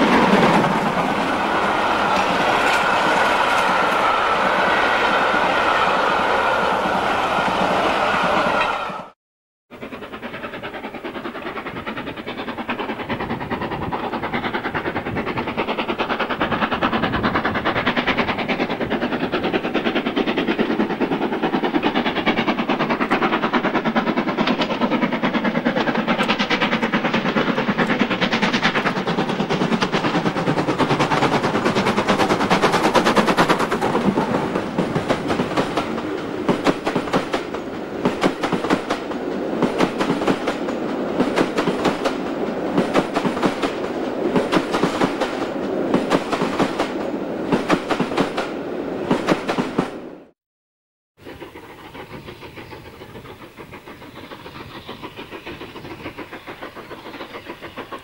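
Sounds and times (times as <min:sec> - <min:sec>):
steam locomotive exhaust beats: 0:00.0 - 0:50.3, 0:51.2 - 0:58.0.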